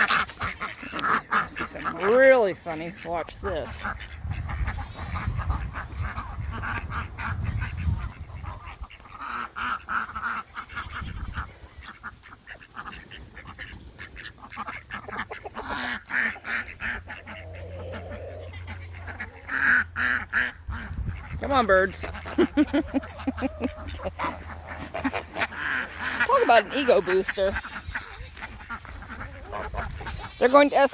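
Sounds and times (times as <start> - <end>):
ducks and geese calling: 0.0 - 30.9.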